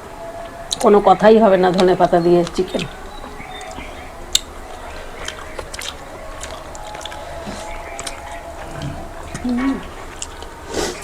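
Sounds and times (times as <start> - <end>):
chewing: 0.0 - 11.0
faint steady hum: 0.0 - 11.0.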